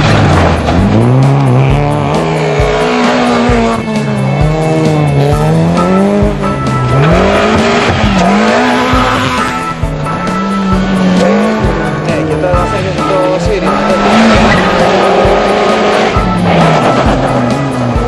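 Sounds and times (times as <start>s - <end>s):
tyres sliding on dirt: 0.0s - 5.2s, 5.8s - 18.0s
rally car engines revving: 0.0s - 18.0s.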